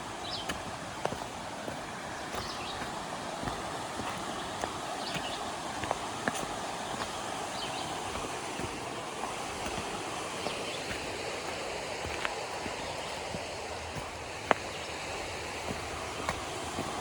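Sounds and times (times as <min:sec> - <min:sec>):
river running: 0:00.0 - 0:17.0.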